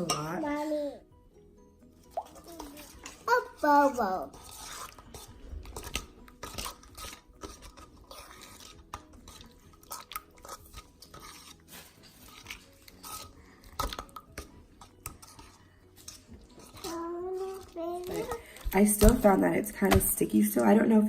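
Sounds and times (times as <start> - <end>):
slime squelching: 2.2 - 20.2.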